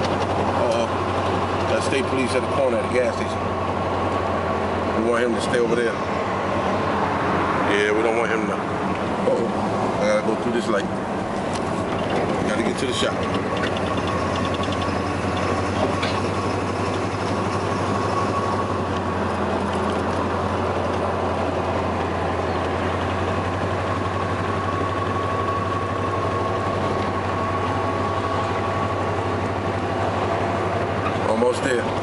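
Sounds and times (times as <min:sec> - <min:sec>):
car engine and road drone: 0:00.0 - 0:32.0.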